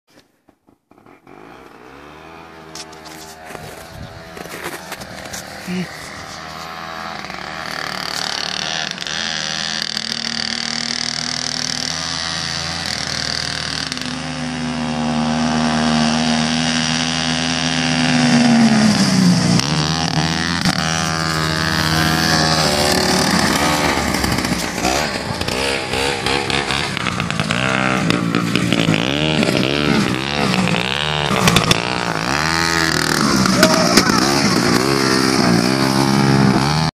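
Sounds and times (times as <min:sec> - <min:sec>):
snowmobile two-stroke engine revving: 0:00.9 - 0:36.9.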